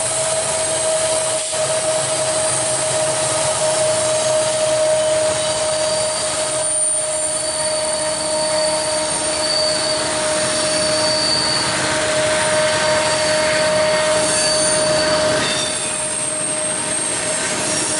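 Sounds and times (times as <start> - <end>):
freight cars rolling on rails: 0.0 - 17.9
high-pitched wheel squeal: 0.0 - 17.9.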